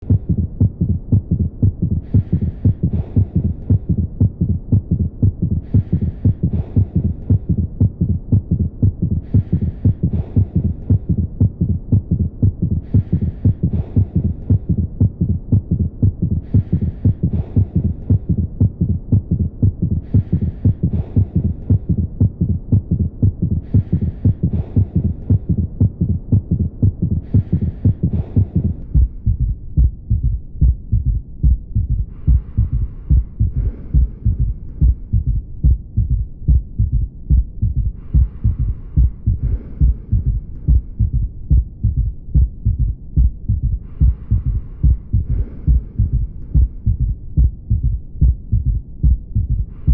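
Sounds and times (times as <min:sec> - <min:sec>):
heart thuds in gallop rhythm: 0:00.0 - 0:49.9.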